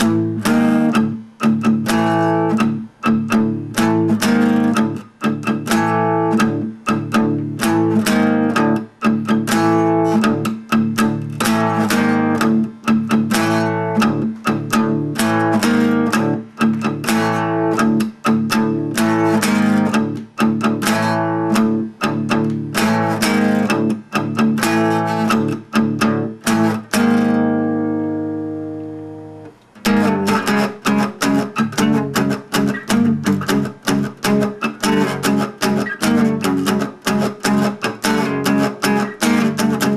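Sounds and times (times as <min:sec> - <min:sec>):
guitar playing plucked notes: 0:00.0 - 0:39.9.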